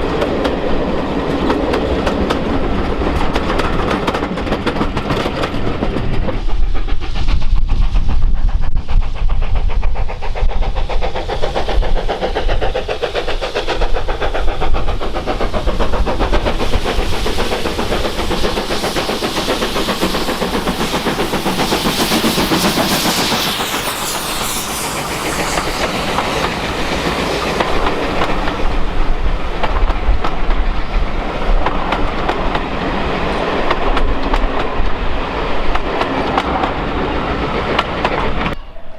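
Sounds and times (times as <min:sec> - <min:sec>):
steam hiss: 0:00.0 - 0:38.6.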